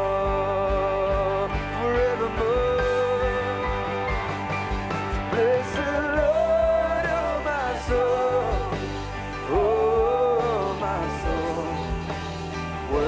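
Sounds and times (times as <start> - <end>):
person singing: 0.0 - 4.5, 5.1 - 12.2, 12.8 - 13.0
electric guitar: 0.0 - 13.0.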